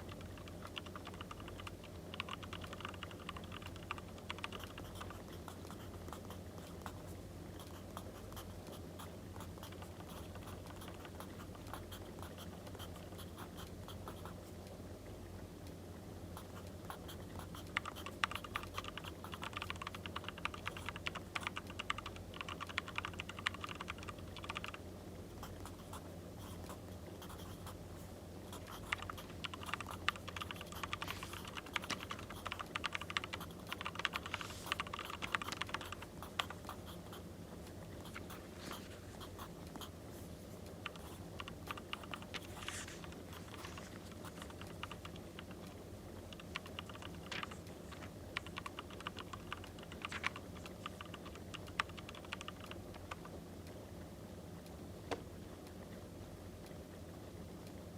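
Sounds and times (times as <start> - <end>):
low background noise: 0.0 - 57.9.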